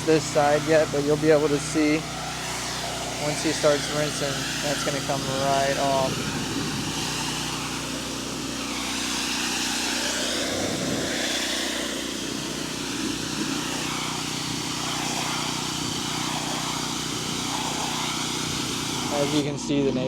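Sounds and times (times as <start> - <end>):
water spray hissing: 0.0 - 19.5
pressure washer engine running: 0.0 - 20.0.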